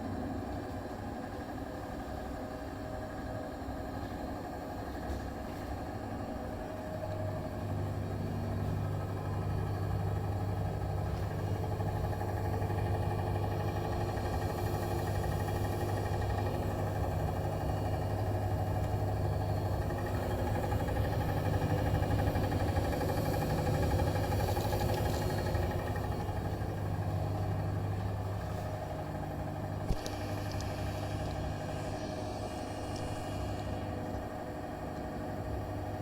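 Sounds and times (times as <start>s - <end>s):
washing machine spinning: 0.0s - 36.0s.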